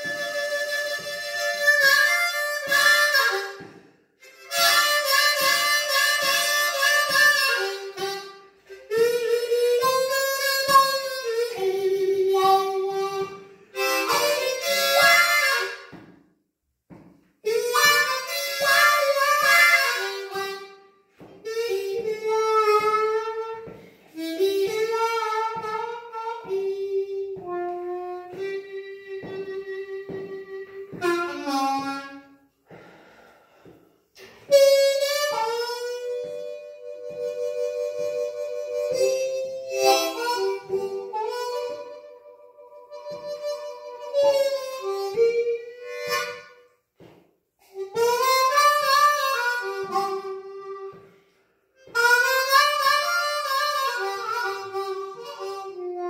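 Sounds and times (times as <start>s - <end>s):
blues harmonica: 0.0s - 16.3s, 16.9s - 56.0s.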